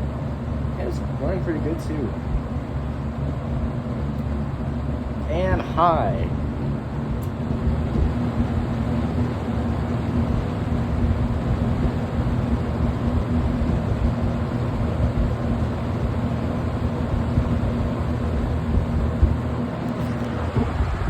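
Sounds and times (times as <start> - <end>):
box fan air rush: 0.0 - 21.0
fan motor hum: 0.0 - 21.0.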